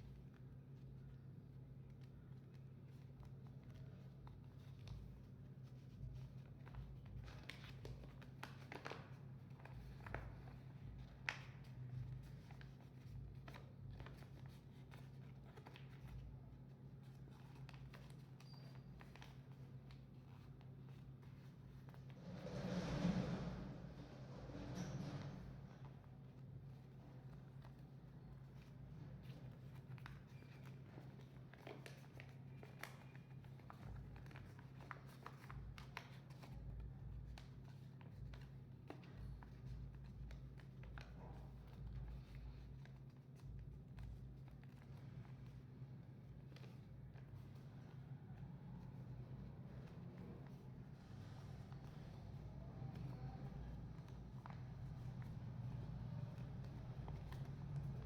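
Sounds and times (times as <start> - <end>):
paper rustling and folding: 0.0 - 58.0.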